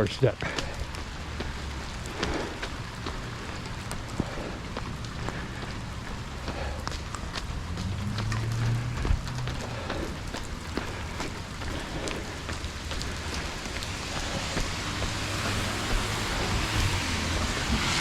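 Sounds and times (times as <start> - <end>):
steady rain falling: 0.0 - 18.0
low rumble: 0.8 - 18.0.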